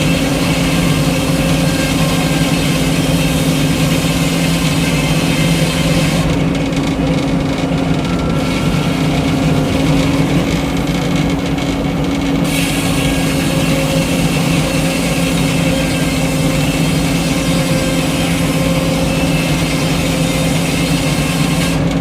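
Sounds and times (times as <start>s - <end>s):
sawmill engine droning: 0.0s - 22.0s.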